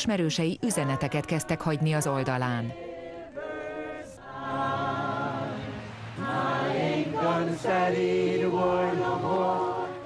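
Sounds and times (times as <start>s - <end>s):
choir singing: 0.6s - 10.0s.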